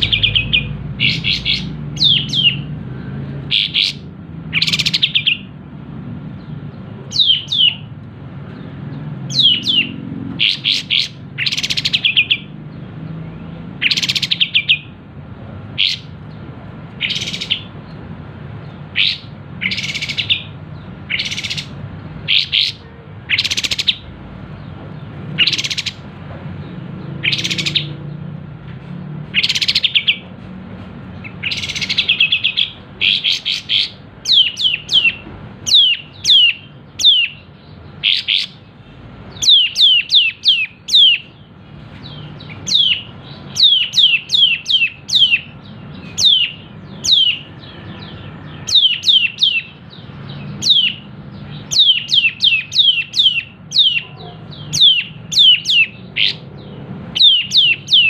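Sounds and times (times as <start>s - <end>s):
bird chirping and trilling: 0.0s - 28.4s, 29.2s - 30.3s, 31.1s - 58.0s.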